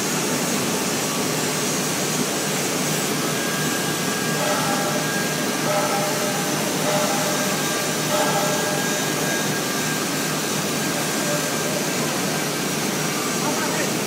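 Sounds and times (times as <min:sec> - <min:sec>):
industrial foundry roar: 0:00.0 - 0:14.0.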